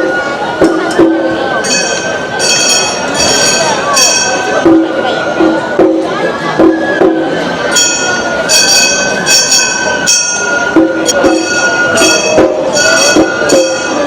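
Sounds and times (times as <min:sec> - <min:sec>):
small bronze gongs clanging: 0:00.0 - 0:14.0.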